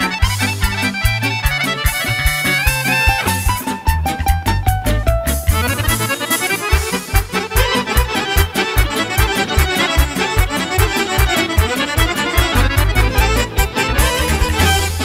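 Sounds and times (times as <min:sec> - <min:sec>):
accordions playing dance tune: 0:00.0 - 0:15.0
steady bass beat: 0:00.0 - 0:15.0.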